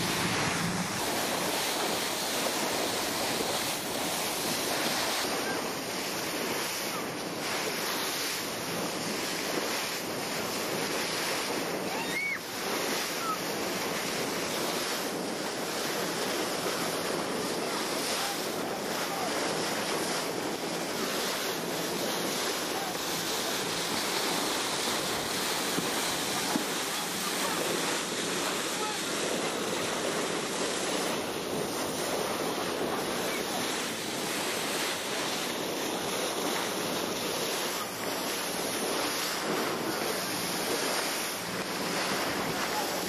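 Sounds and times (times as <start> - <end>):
sea water churning: 0.0 - 43.0
wind on microphone: 0.0 - 43.0.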